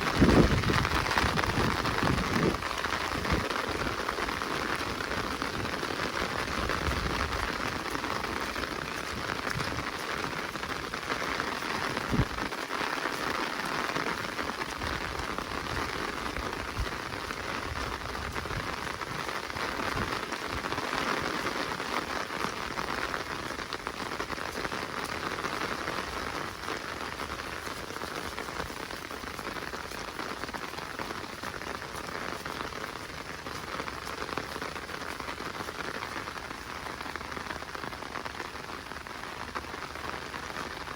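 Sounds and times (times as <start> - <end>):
rain falling in forest: 0.0 - 40.9.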